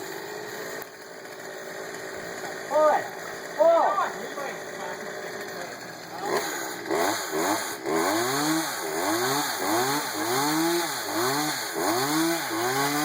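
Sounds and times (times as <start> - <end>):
chainsaw cutting into tree trunk: 0.0 - 13.0.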